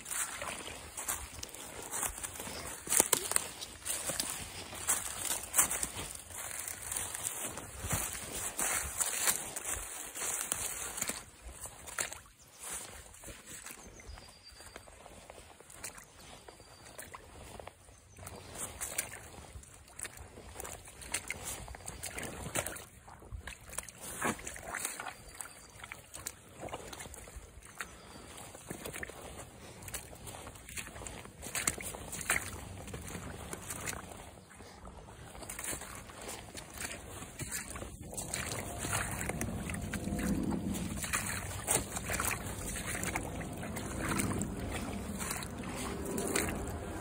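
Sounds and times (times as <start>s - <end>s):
boots splashing through muddy water: 0.0s - 47.0s.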